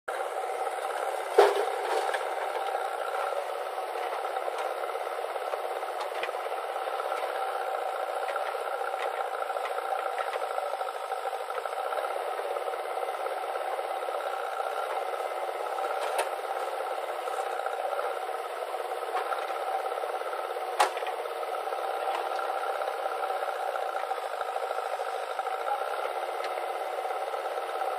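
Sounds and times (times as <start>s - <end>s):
diesel engines running: 0.1s - 27.9s.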